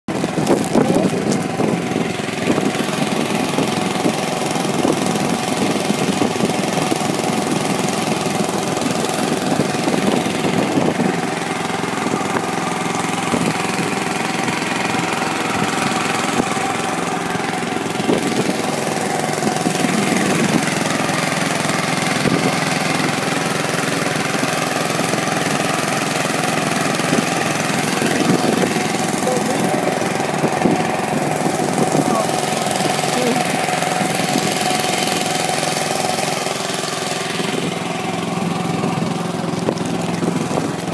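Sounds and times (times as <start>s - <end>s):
boat engine running: 0.0s - 40.9s
wind: 0.0s - 40.9s
rushing water: 0.1s - 40.9s.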